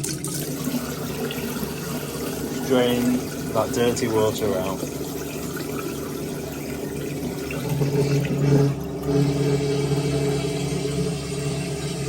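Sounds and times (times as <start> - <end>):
drain pump motor hum: 0.0 - 12.0
water gushing: 0.0 - 12.0.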